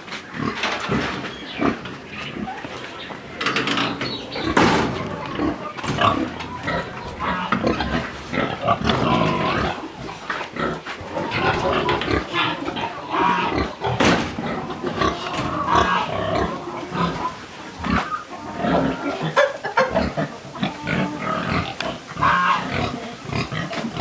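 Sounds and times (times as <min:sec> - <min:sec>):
pigs grunting: 0:00.0 - 0:24.0.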